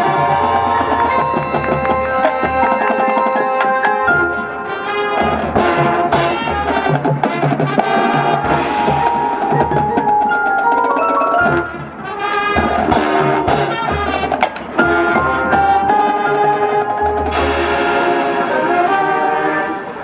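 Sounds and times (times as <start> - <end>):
brass band playing: 0.0 - 20.0
drums: 0.0 - 20.0
mallet keyboards: 0.0 - 20.0.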